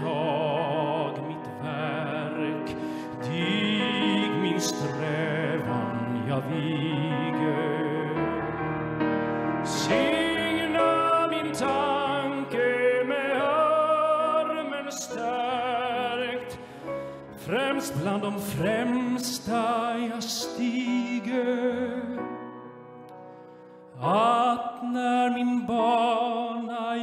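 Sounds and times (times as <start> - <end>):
man singing slowly: 0.0 - 8.4, 9.6 - 16.7, 17.3 - 22.2, 24.0 - 27.0.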